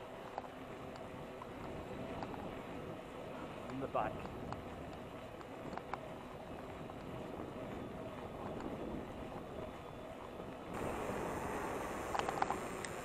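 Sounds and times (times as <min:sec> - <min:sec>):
road noise: 0:00.0 - 0:13.0
wind rushing over microphone: 0:01.5 - 0:13.0.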